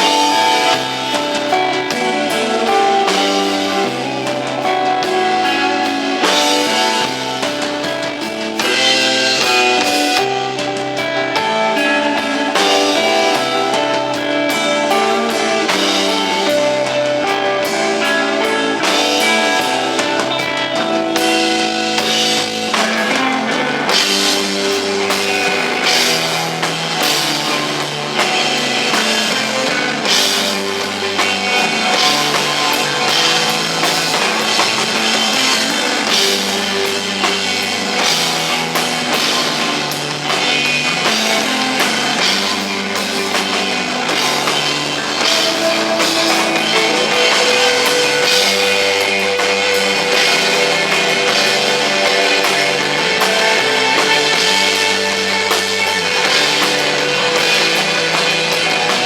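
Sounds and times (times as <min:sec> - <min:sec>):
drum kit cymbal wash: 0:00.0 - 0:59.0
electric guitar sustained notes: 0:00.0 - 0:59.0.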